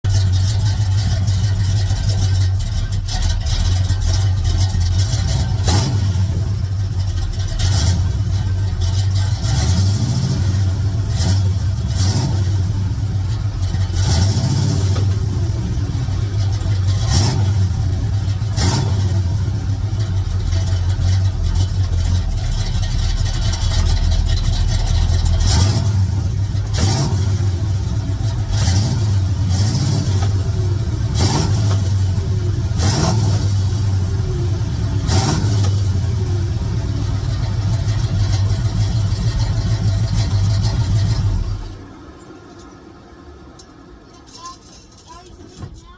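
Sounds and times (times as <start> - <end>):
drivetrain low drone: 0.0 - 42.6.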